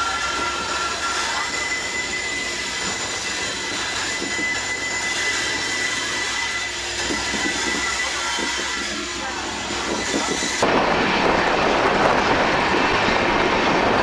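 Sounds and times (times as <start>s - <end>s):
thin high whine: 0.0s - 11.6s
train wind and wheel noise: 0.0s - 14.0s.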